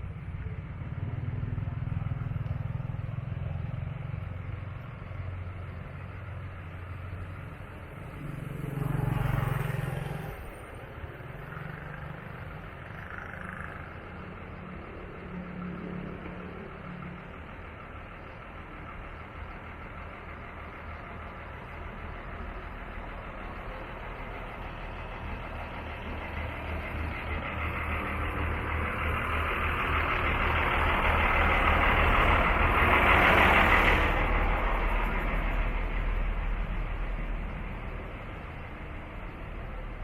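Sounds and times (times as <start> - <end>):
vehicle passing by: 0.0 - 17.3, 23.2 - 40.0
low pulsing engine rumble: 0.0 - 40.0.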